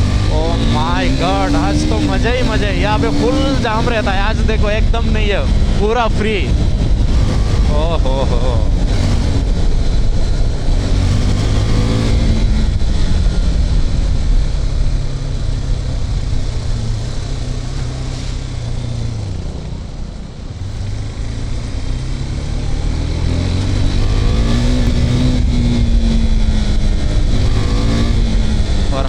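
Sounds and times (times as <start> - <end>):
motorcycle engine while riding: 0.0 - 29.0.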